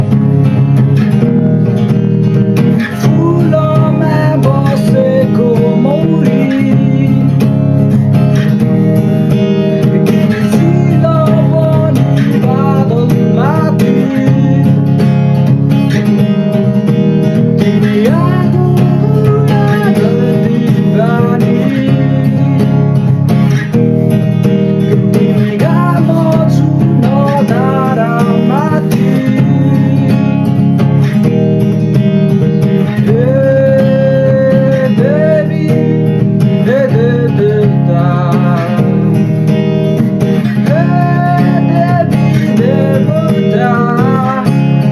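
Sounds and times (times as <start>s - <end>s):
strummed plucked-string instruments: 0.0s - 44.9s.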